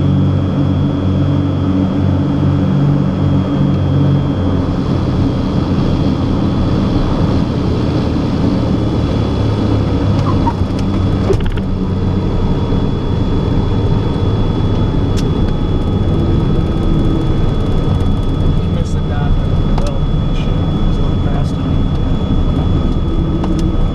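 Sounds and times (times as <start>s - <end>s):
piston aircraft engines: 0.0s - 23.9s.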